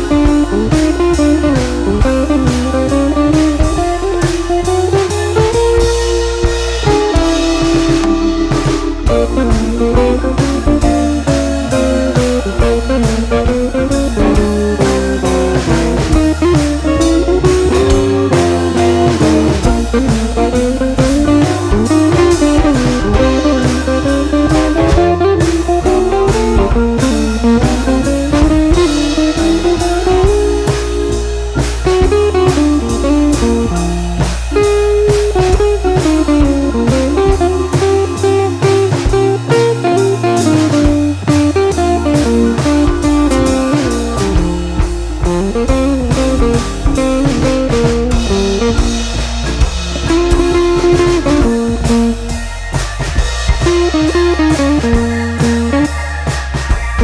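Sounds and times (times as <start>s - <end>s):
instrumental background music: 0.0s - 57.0s.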